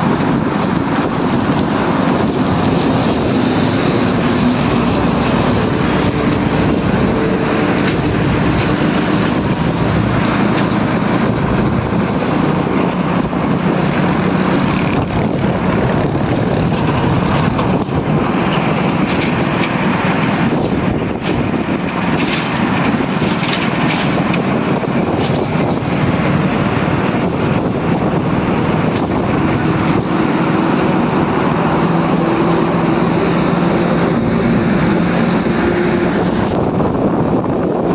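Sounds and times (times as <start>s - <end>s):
engine hum: 0.0s - 37.9s
wind and road noise: 0.0s - 37.9s.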